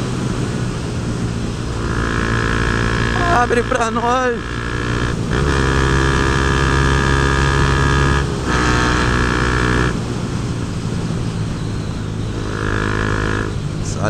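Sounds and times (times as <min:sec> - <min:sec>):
motorcycle engine under throttle: 0:00.0 - 0:13.9.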